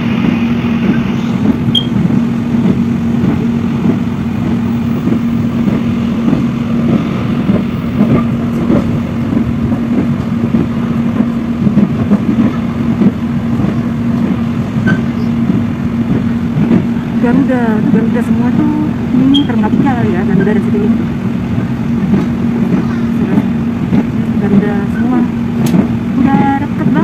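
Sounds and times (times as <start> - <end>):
train running rumble: 0.0 - 27.0.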